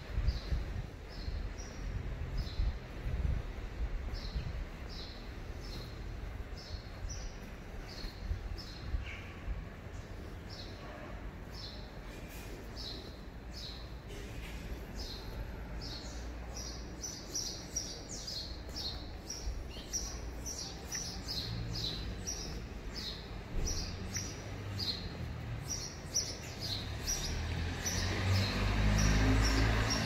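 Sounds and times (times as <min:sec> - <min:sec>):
small birds chirping: 0:00.2 - 0:10.8, 0:11.5 - 0:30.0.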